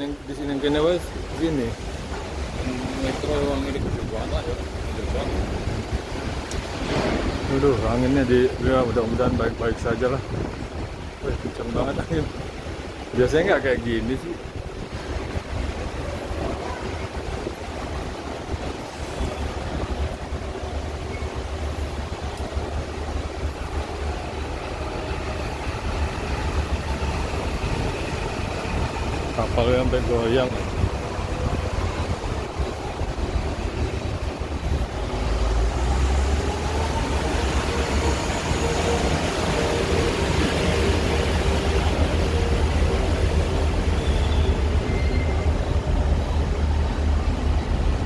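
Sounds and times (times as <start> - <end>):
wind buffeting microphone: 1.2 - 13.1, 14.2 - 44.8.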